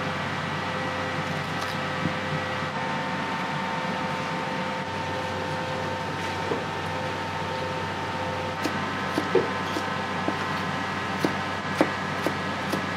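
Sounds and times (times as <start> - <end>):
gas burner and extractor roar: 0.0 - 12.9
steady hum: 0.0 - 12.9.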